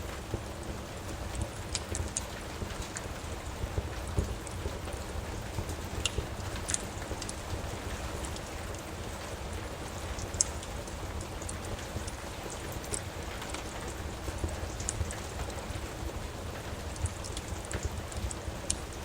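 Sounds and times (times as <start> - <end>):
steady rain: 0.0 - 19.0
wood fire crackling and popping: 0.0 - 19.0.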